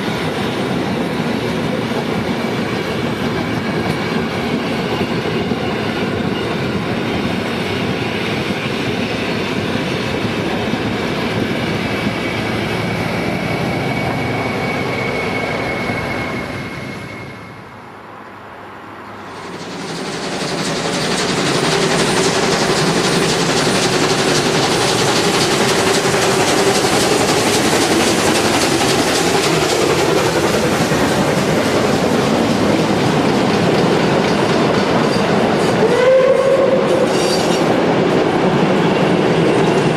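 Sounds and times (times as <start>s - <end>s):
train wheels clickety-clack: 0.0s - 16.6s, 19.3s - 39.9s.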